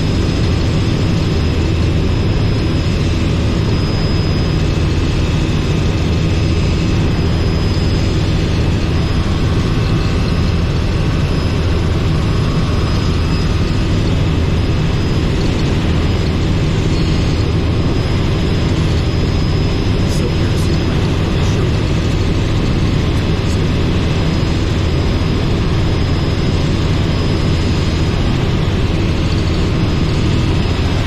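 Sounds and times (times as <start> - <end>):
helicopter engine and rotors: 0.0 - 31.0.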